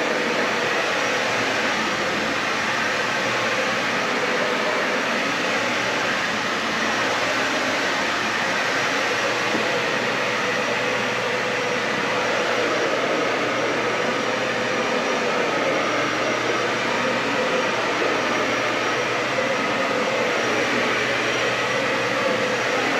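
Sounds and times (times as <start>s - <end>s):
vacuum cleaner running on carpet: 0.0s - 22.9s.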